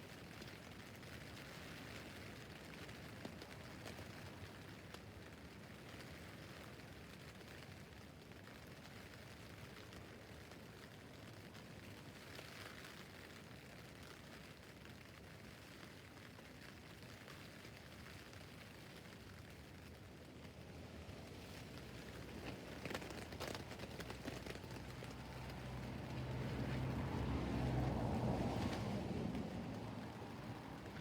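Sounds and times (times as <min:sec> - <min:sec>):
rain pattering on tent fabric: 0:00.0 - 0:31.0.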